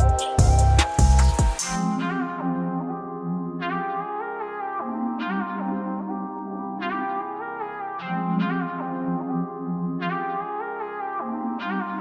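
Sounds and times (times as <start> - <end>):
brass-like synthesizer chords: 0.0 - 12.0.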